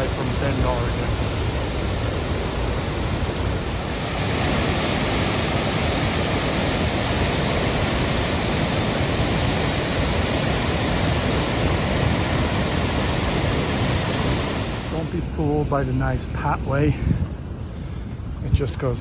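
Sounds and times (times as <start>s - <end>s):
waterfall roaring: 0.0s - 15.6s.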